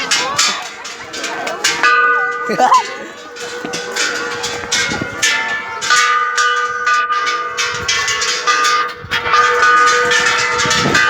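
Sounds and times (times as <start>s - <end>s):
temple bells ringing: 0.0s - 11.0s.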